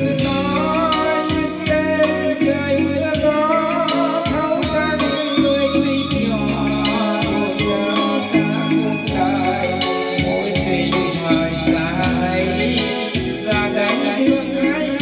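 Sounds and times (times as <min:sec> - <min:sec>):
person singing: 0:00.0 - 0:15.0
song over loudspeakers: 0:00.0 - 0:15.0
drum and shaker beat: 0:00.1 - 0:15.0.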